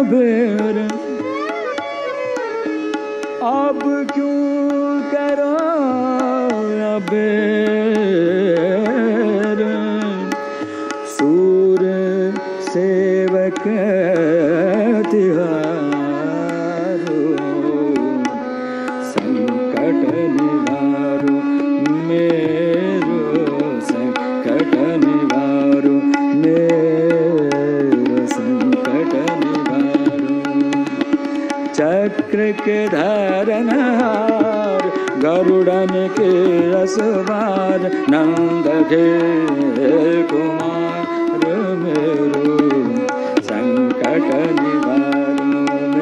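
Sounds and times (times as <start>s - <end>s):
tabla rhythm: 0.0s - 46.0s.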